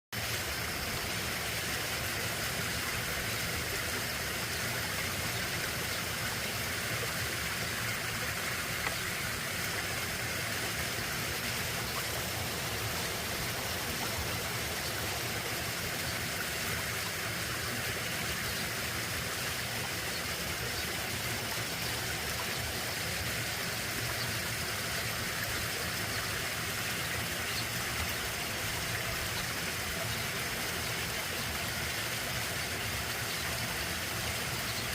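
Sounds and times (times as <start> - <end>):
brook water running: 0.1 - 34.9.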